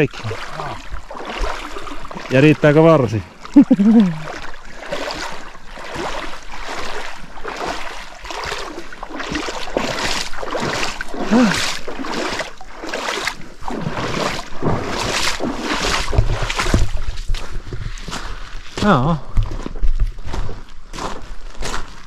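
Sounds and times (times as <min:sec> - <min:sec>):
boots splashing through water: 0:00.0 - 0:22.0.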